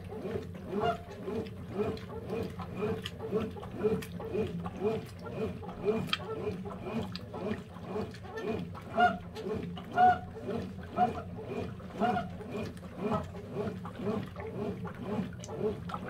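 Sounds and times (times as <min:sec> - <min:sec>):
washing machine churning water: 0:00.0 - 0:16.0.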